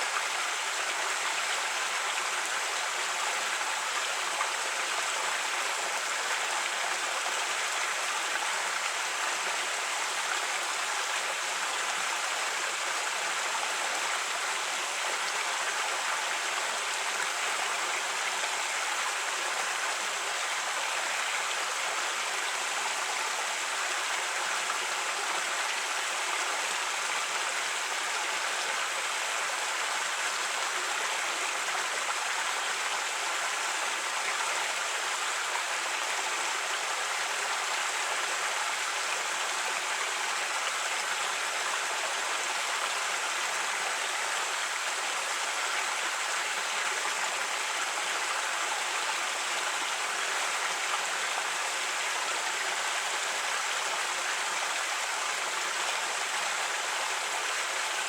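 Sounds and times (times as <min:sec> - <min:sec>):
creek water over rocks: 0:00.0 - 0:58.0.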